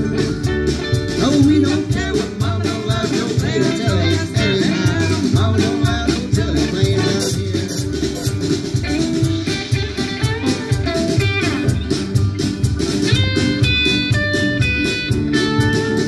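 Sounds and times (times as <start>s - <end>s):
banjo: 0.0s - 16.0s
drum kit steady beat: 0.0s - 16.0s
guitars: 0.0s - 16.0s
upright bass: 0.0s - 16.0s.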